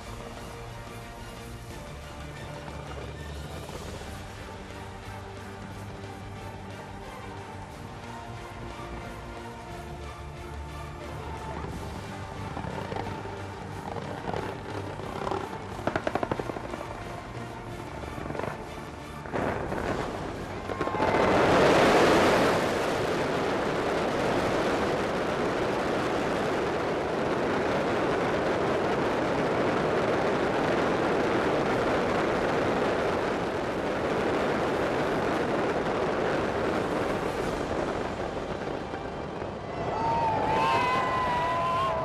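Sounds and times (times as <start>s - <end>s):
fireworks bangs and crackle: 0.0s - 8.1s, 10.4s - 42.0s.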